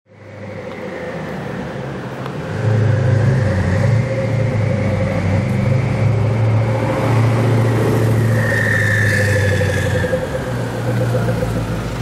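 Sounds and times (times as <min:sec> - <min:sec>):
car engine low drone: 0:00.1 - 0:12.0
faint turbo whine: 0:00.1 - 0:12.0.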